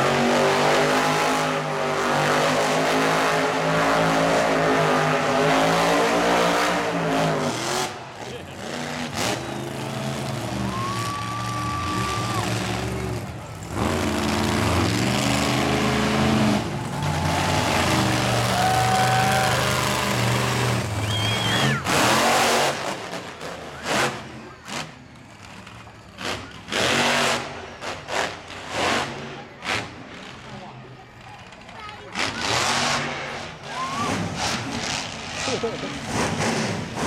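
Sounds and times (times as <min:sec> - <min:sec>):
monster truck engines revving: 0:00.0 - 0:37.0.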